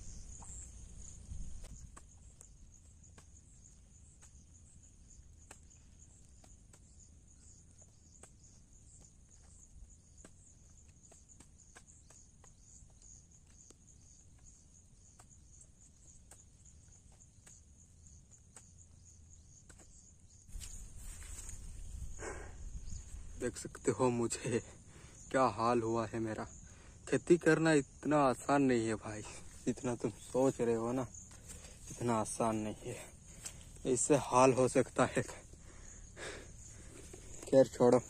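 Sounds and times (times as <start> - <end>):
distant hoe strokes in soil: 0.0 - 38.0
high insect chirring: 0.0 - 38.0.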